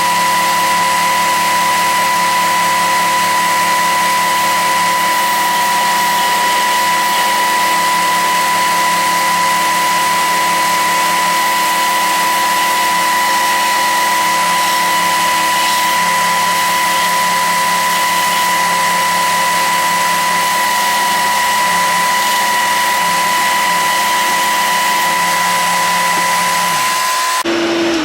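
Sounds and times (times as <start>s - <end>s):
belt sander whining: 0.0s - 28.0s.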